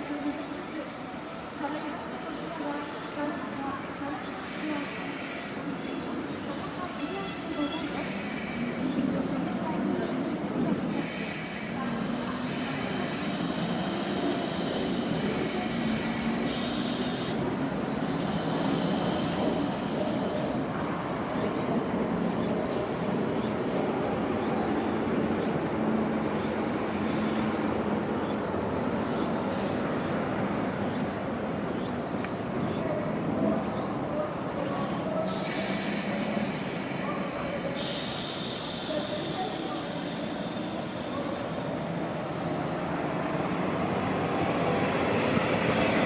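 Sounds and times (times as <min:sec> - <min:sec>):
electric train pulling in: 0:00.0 - 0:46.0.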